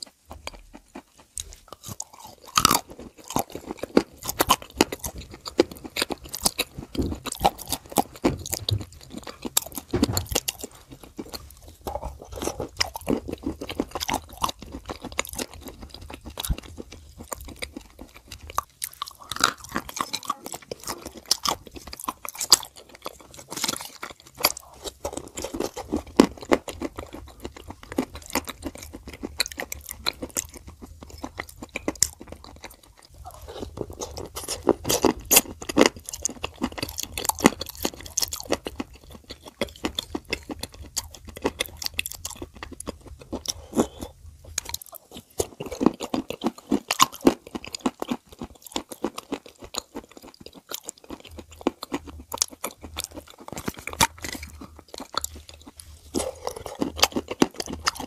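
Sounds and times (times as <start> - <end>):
chewing and crunching clay: 0.0 - 58.0.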